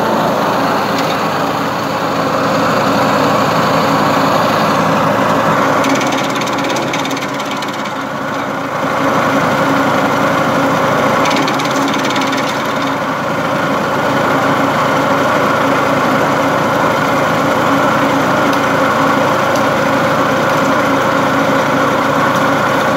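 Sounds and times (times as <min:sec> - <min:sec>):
branch chipper engine running: 0:00.0 - 0:22.9.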